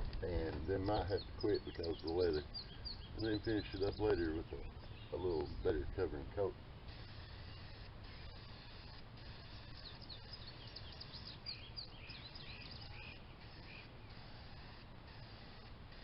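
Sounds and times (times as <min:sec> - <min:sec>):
faint outdoor rumble: 0:00.0 - 0:16.0
small songbirds chirping: 0:00.0 - 0:16.0.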